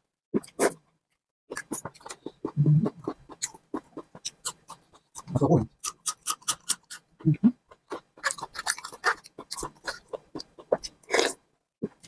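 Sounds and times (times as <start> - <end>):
chewing and mouth smacks: 1.5 - 7.1, 7.7 - 12.0.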